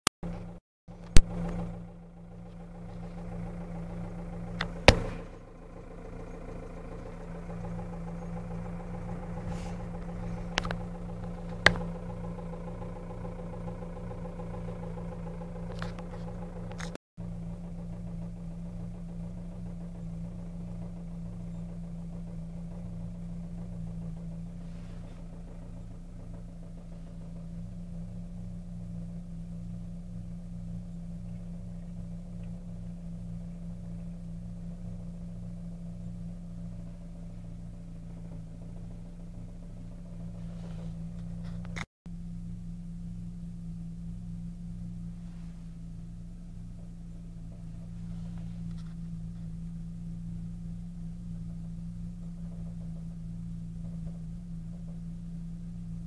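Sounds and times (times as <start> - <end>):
car engine idling with knock: 0.2 - 56.0.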